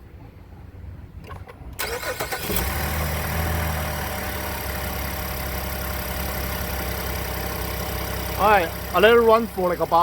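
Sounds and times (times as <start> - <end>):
car engine starting and idling: 1.2 - 10.0.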